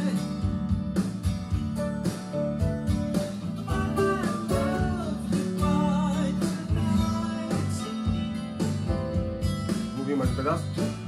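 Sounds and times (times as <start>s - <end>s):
rock song with singing: 0.0s - 1.6s, 3.2s - 11.0s.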